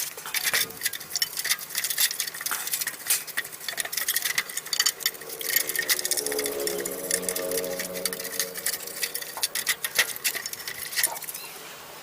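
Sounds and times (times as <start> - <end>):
small metal tools clinking: 0.0 - 11.6.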